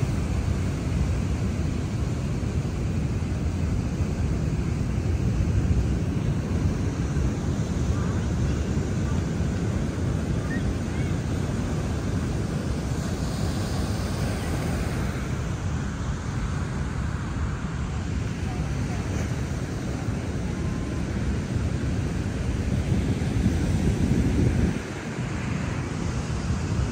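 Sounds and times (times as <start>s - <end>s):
ocean surf on sandy beach: 0.0s - 26.9s
wind buffeting microphone: 0.0s - 26.9s.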